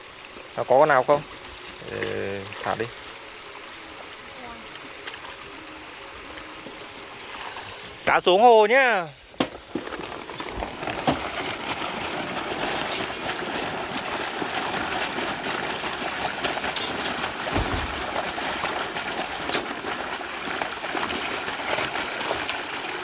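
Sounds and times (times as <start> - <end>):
water pouring and sloshing: 0.0 - 23.0.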